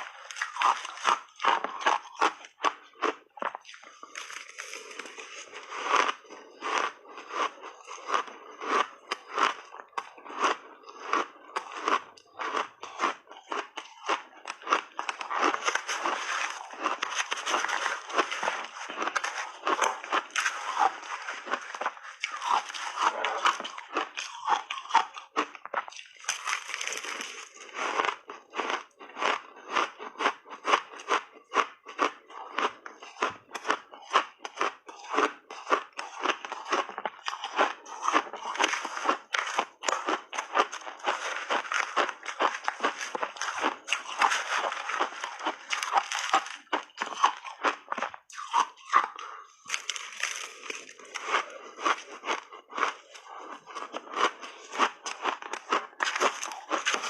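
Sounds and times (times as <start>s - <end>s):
crunching shaved ice: 0.0s - 57.0s.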